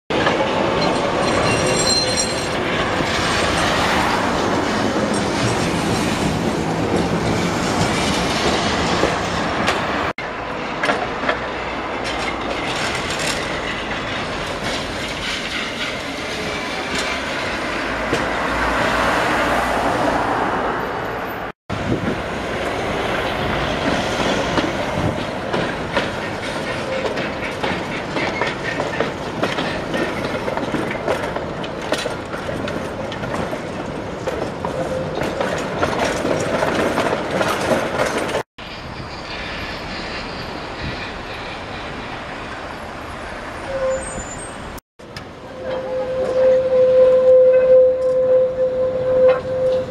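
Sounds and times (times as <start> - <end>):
tram wheels clattering on rails: 0.1 - 49.9.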